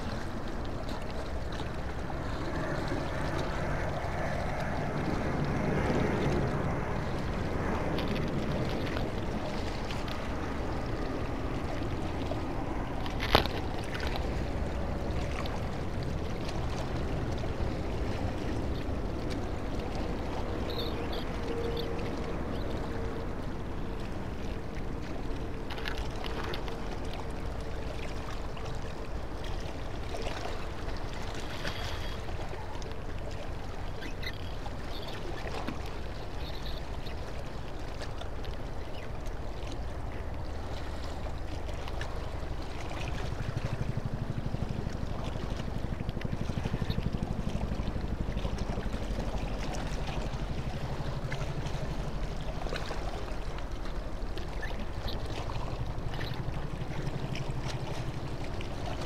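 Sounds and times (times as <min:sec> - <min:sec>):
water lapping: 0:00.0 - 0:59.0
wind rumble: 0:00.0 - 0:59.0.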